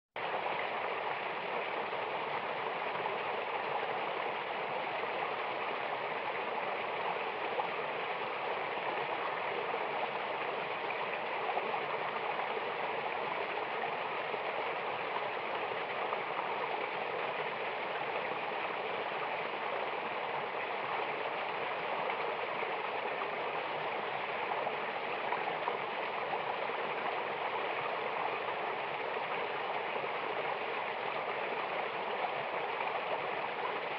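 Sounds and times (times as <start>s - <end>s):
running water: 0.2s - 33.9s.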